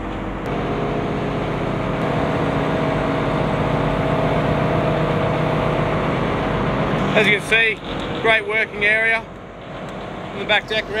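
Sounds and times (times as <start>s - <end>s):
boat motor hum: 0.0s - 11.0s.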